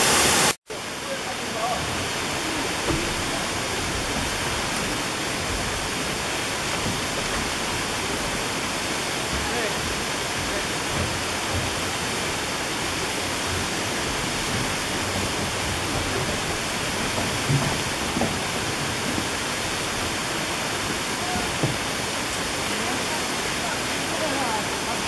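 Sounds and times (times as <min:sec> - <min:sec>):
waterfall rushing: 0:00.0 - 0:25.0
low thumps: 0:01.8 - 0:22.0.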